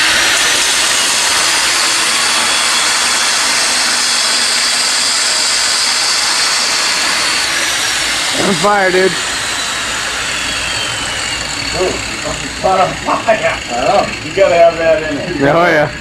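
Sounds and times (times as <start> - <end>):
angle grinder grinding steel: 0.0 - 16.0.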